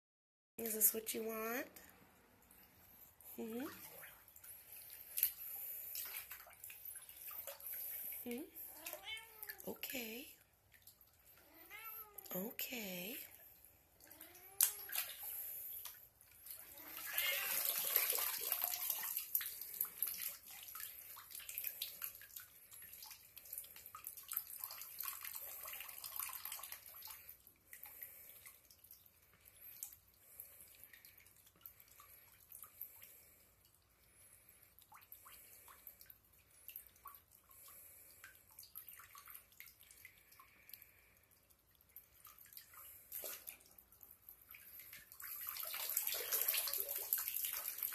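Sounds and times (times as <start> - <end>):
water drips: 1.8 - 47.9
tap water trickling and splashing: 2.2 - 8.2, 10.4 - 11.5, 13.4 - 47.9.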